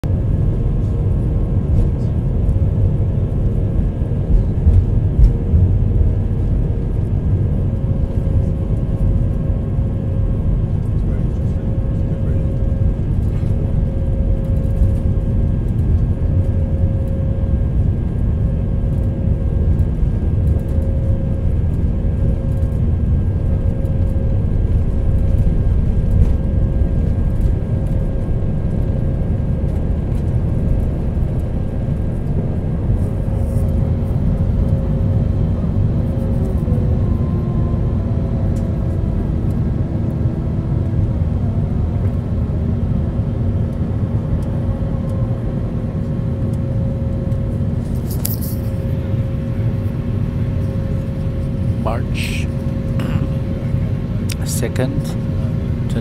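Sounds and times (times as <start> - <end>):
jet engines droning rumble: 0.0 - 56.0.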